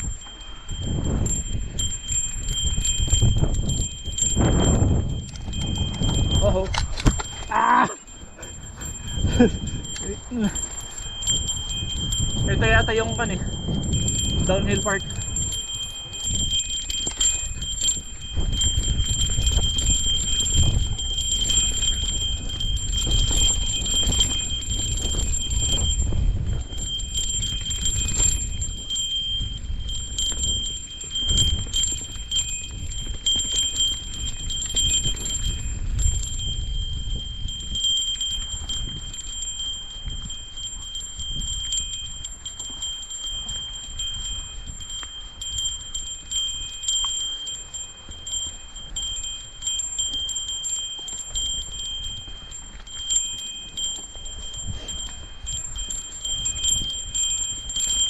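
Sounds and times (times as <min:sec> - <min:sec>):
bike bell jingling: 0:00.0 - 0:58.0.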